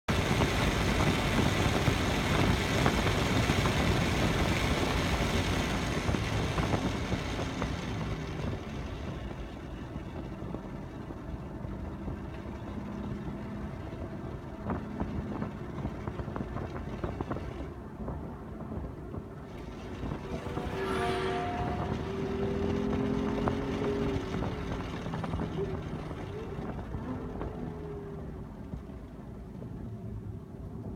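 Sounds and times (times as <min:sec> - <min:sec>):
exhaust pops: 0:00.1 - 0:11.2, 0:12.1 - 0:29.9
sports car engine and exhaust rumble: 0:00.1 - 0:30.9.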